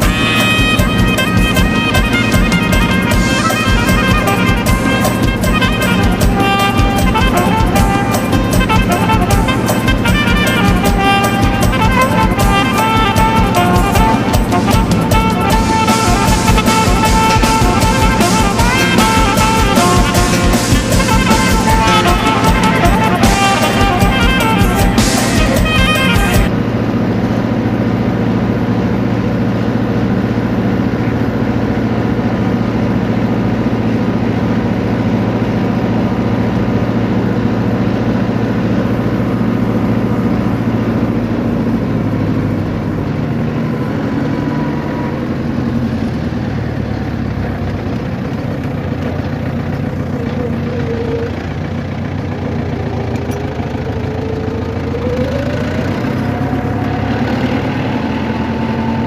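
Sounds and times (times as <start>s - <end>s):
vehicle engine humming: 0.0s - 59.0s.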